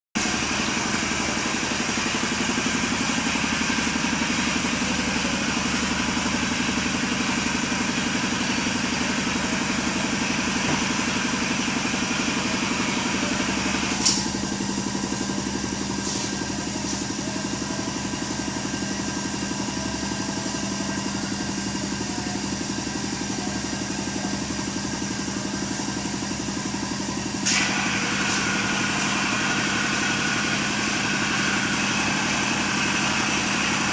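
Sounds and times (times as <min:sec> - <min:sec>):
engine droning steadily: 0:00.2 - 0:33.9.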